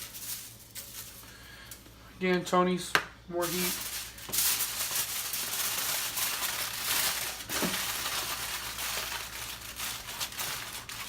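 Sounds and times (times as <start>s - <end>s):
seasoning shaker rattling: 0.0s - 1.5s, 3.4s - 11.0s.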